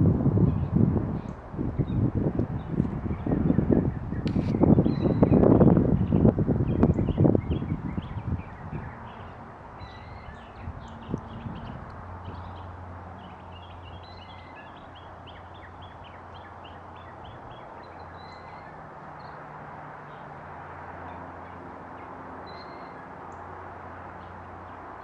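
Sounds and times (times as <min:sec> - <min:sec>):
distant jet aircraft rumble: 0:00.0 - 0:25.0.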